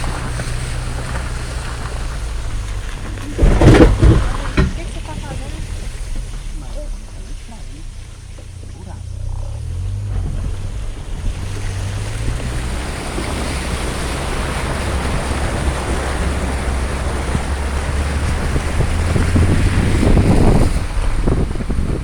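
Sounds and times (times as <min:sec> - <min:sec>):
heavy rain pouring: 0:00.0 - 0:22.0
wind buffeting microphone: 0:00.0 - 0:22.0.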